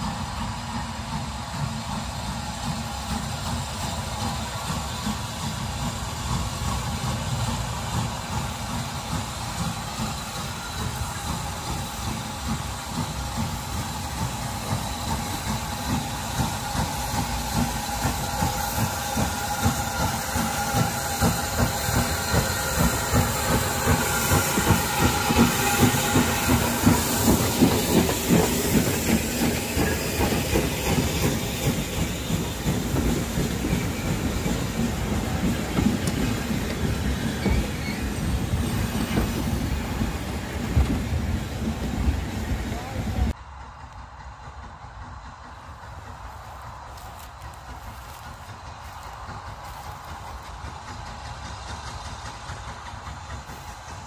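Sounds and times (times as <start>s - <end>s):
hiss of steam: 0.0s - 54.0s
steam locomotive chuffing: 0.0s - 54.0s
wheels rattling over rail joints: 0.0s - 54.0s.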